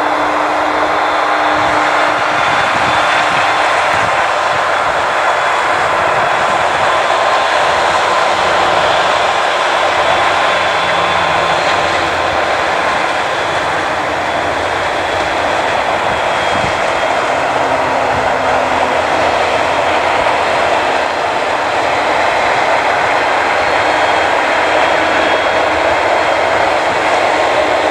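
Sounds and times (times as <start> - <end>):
tractor engine: 0.0 - 27.9.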